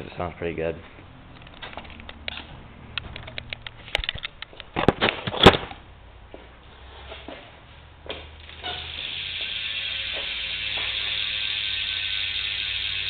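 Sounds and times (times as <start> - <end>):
bike clicks and knocks: 1.3 - 7.5, 8.1 - 13.0.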